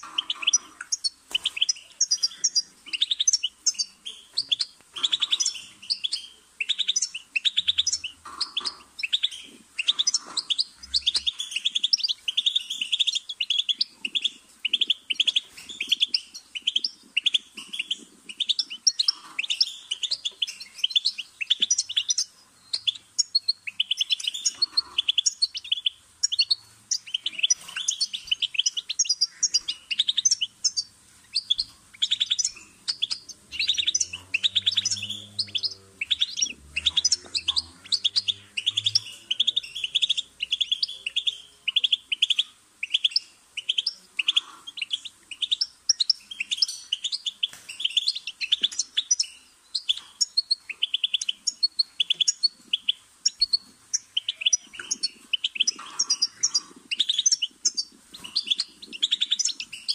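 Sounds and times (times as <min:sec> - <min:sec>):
goldfinch twittering song: 0:00.0 - 0:59.9.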